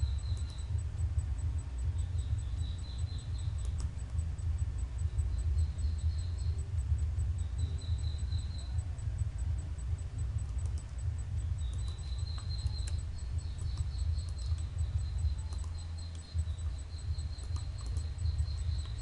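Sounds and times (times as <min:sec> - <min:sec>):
faint fast ticking: 0:00.0 - 0:19.0
low room hum: 0:00.0 - 0:19.0
mouse clicks: 0:00.0 - 0:19.0.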